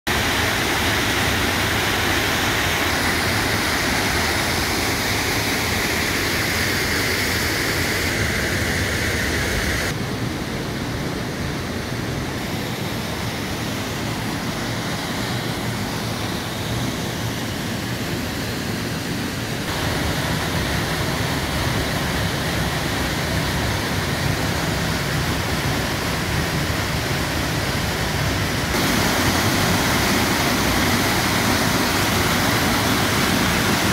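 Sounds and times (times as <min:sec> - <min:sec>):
waterfall rushing into pool: 0:00.1 - 0:33.9.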